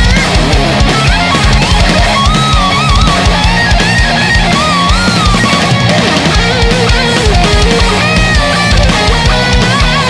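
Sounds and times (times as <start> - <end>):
bass: 0.0 - 10.0
distorted rhythm guitar: 0.0 - 10.0
drums: 0.0 - 10.0
electric guitar lead with vibrato: 0.0 - 10.0.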